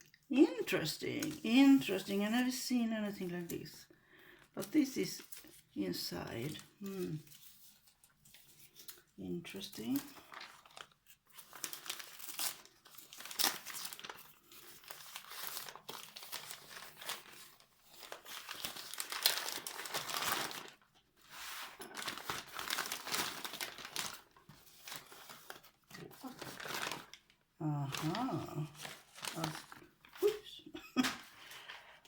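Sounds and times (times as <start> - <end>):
packaging crinkling and rustling: 4.6 - 31.7.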